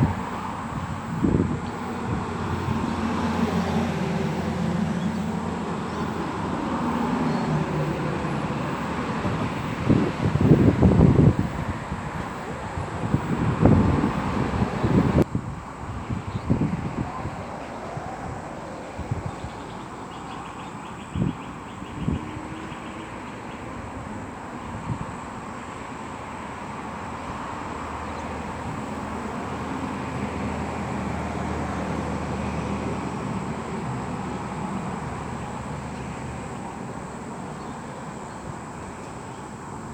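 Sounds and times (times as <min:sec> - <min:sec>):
outdoor background noise: 0:00.0 - 0:39.9
passing vehicle rumble: 0:00.0 - 0:39.9.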